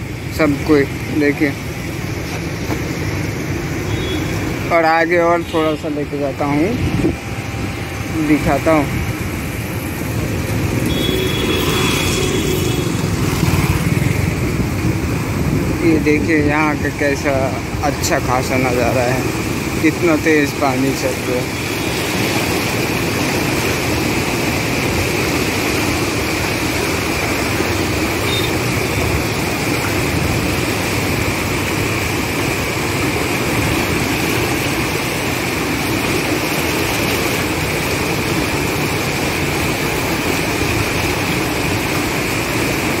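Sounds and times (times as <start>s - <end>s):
river rapids rushing: 0.1s - 43.0s.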